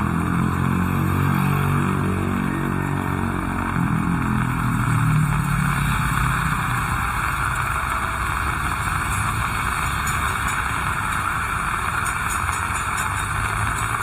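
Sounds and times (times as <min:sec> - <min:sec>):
heavy rain: 0:00.0 - 0:14.0
traffic engine rumble: 0:00.0 - 0:14.0.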